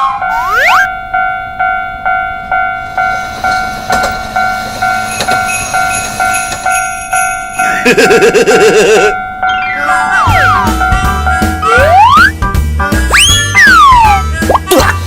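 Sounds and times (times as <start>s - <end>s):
railroad crossing bell ringing: 0.0s - 12.1s.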